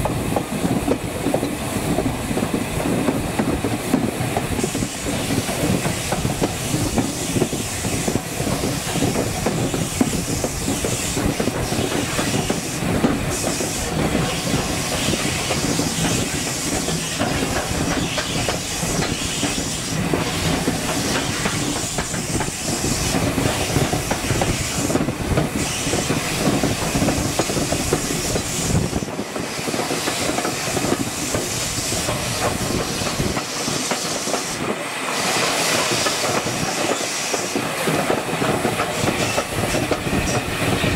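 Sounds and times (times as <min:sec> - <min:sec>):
deep train rumble: 0:00.0 - 0:40.9
train wheels clattering on rails: 0:00.0 - 0:40.9
steam hissing: 0:00.1 - 0:40.9.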